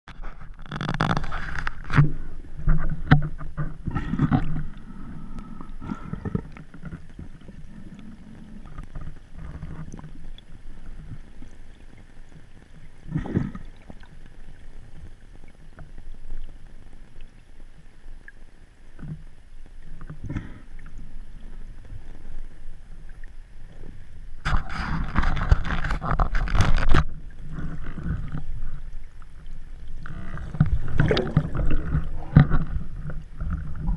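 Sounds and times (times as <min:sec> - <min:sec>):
water sloshing and bubbling: 0:00.1 - 0:33.9.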